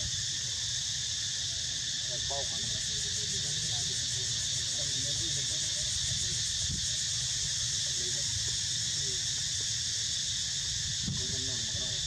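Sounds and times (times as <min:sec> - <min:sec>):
insects high-pitched drone: 0:00.0 - 0:12.0.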